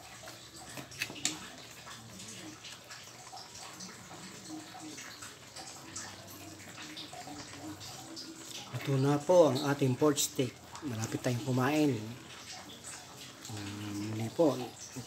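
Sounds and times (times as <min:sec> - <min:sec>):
sauce simmering in a wok: 0:00.0 - 0:15.0.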